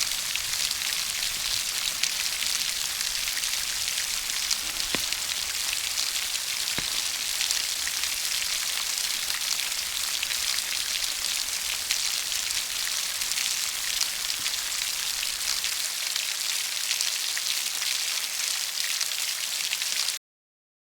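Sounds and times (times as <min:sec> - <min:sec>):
rain pattering on a surface: 0:00.0 - 0:20.2.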